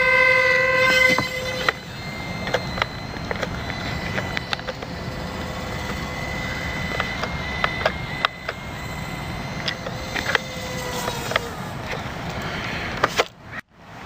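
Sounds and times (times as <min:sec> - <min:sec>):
model airplane motor whine: 0:00.0 - 0:13.7
short clicks: 0:00.8 - 0:13.6.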